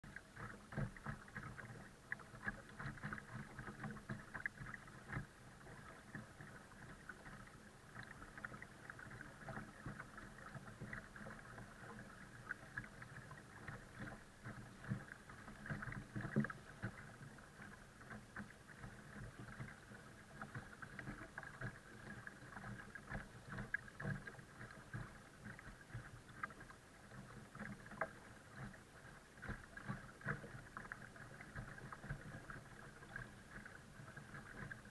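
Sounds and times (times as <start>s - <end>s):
water lapping against kayak hull: 0.0s - 34.9s.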